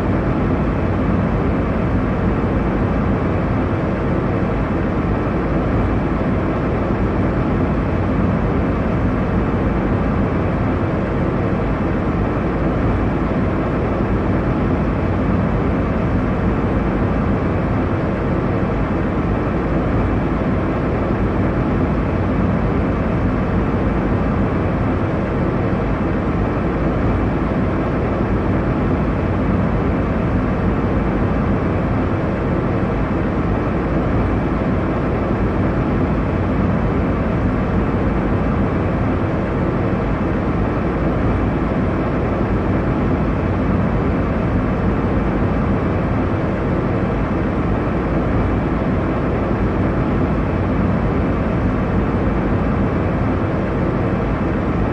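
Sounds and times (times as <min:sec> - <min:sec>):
airliner cabin engine rush: 0:00.0 - 0:54.9.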